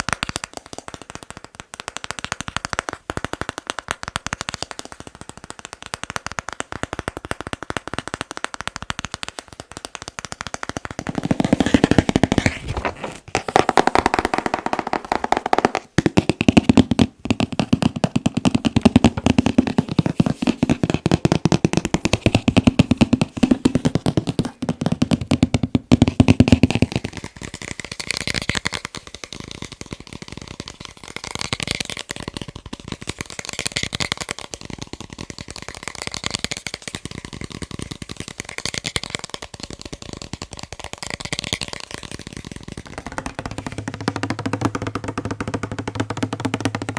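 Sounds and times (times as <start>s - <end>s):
rapid tapping on objects: 0.0s - 46.9s.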